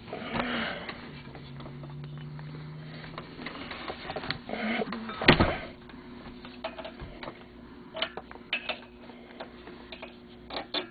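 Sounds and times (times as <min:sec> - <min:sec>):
faint steady hum: 0:00.0 - 0:10.9.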